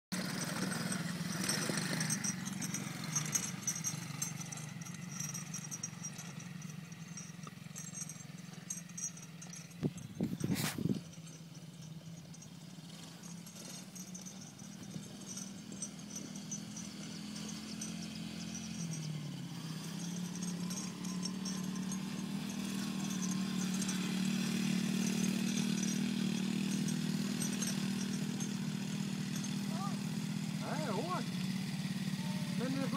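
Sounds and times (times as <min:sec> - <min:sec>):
small quad engine running: 0:00.1 - 0:32.9.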